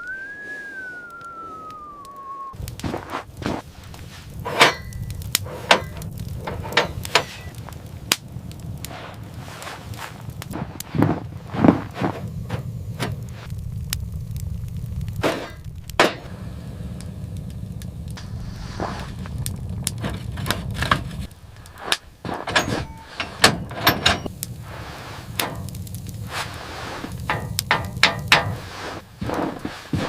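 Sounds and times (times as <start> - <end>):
low steady rumble: 2.6 - 30.0.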